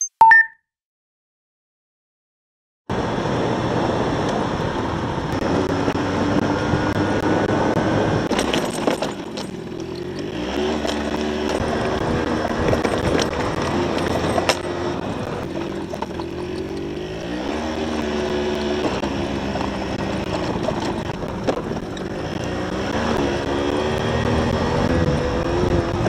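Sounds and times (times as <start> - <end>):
scooter engine running: 3.0 - 26.0.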